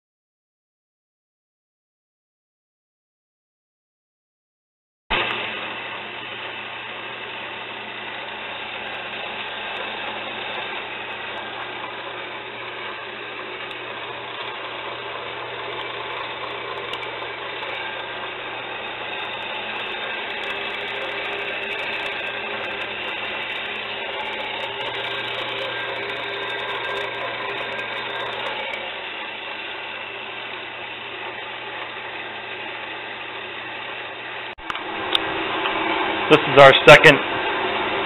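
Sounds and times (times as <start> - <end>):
bandsaw cutting steel: 5.1 - 38.0.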